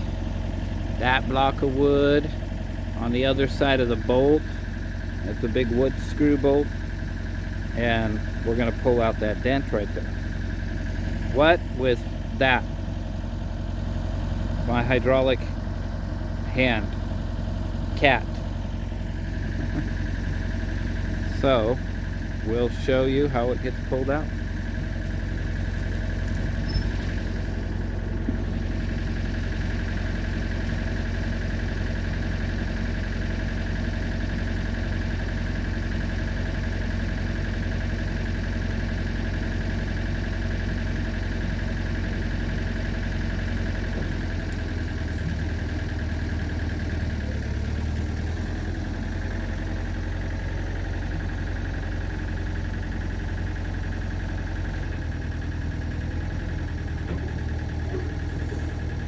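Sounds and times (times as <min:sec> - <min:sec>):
excavator diesel engine idling: 0:00.0 - 0:59.0.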